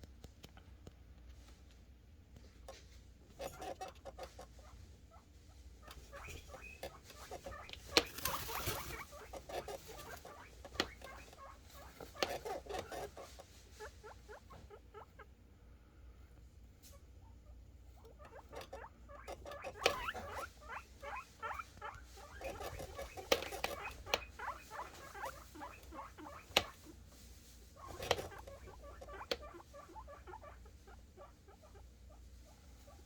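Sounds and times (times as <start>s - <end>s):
guinea pigs squeaking: 2.4s - 15.4s, 16.7s - 33.0s.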